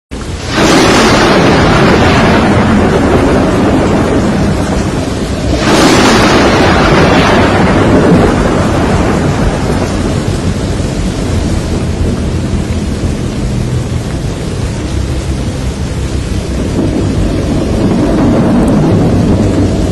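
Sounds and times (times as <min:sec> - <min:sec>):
steady rain: 0:00.1 - 0:19.9
thunder crashing and rumbling: 0:00.2 - 0:19.9.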